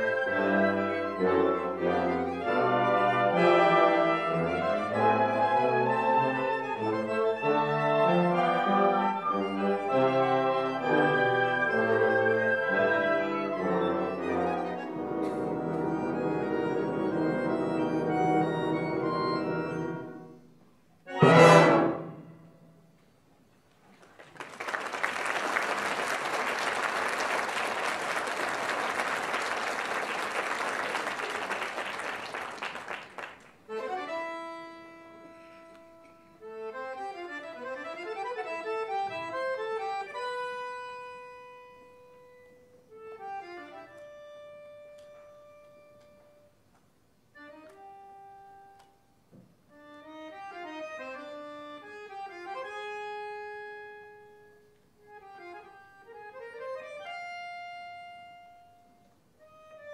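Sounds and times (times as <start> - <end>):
accordion playing: 0.0 - 22.6, 25.8 - 59.9.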